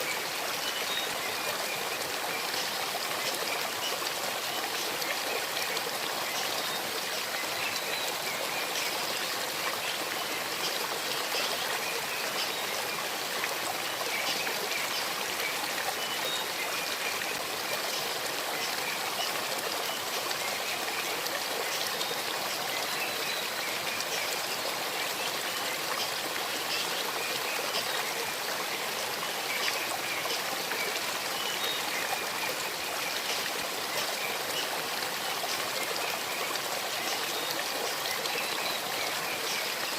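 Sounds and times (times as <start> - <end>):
stream babbling over stones: 0.0 - 39.9
water trickles and splashes: 0.0 - 39.9.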